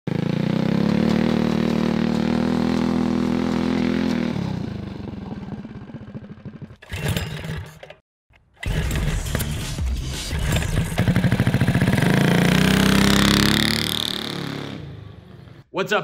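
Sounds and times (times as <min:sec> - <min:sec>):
go-kart engine running: 0:00.1 - 0:08.0, 0:08.6 - 0:09.4, 0:10.4 - 0:15.6.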